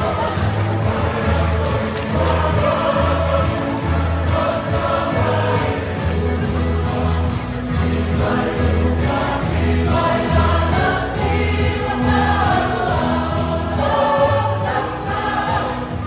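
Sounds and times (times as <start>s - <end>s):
choir singing a gospel hymn: 0.0s - 16.0s
repeated low bass notes: 0.0s - 16.0s.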